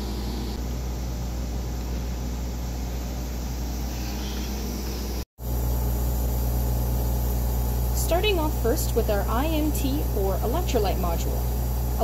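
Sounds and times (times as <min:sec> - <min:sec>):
analyzer machine humming: 0:00.0 - 0:12.0.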